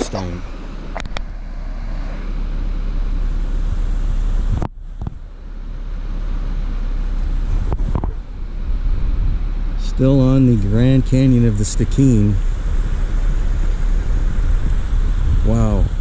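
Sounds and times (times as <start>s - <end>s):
vehicle rumbling on dirt road: 0.0s - 16.0s.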